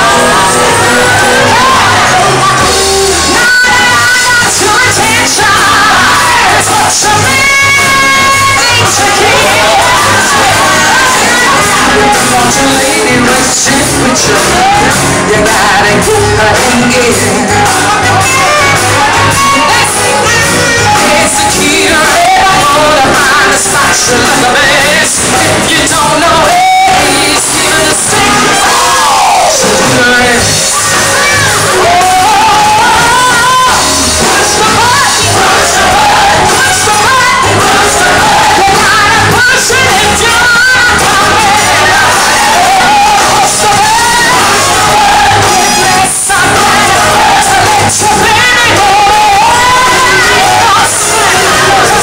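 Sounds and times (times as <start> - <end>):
backing singers: 0.0 - 52.0
band playing over bass beat: 0.0 - 52.0.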